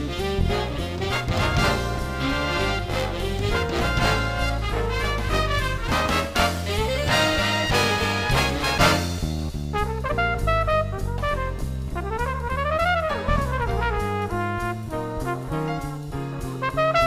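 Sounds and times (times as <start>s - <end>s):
brass-led jazz with drums: 0.0s - 17.0s.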